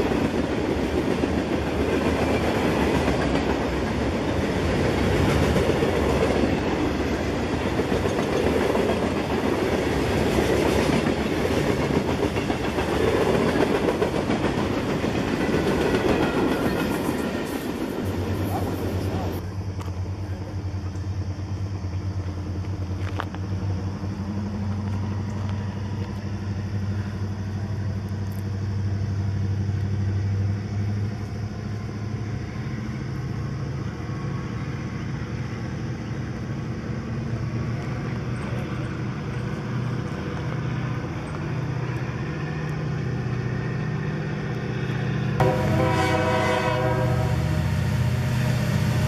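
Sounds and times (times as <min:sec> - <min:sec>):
locomotive engine drone: 0:00.0 - 0:49.0.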